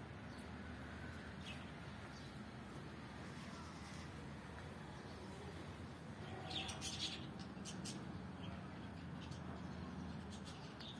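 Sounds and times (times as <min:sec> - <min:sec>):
small birds chirping: 0:00.2 - 0:10.9.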